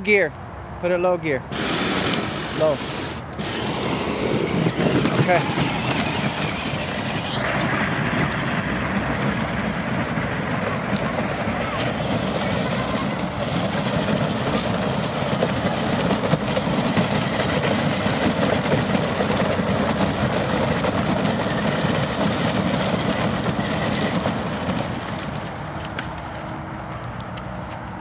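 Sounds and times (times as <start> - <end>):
plastic wheels rolling on gravel: 1.5 - 26.5.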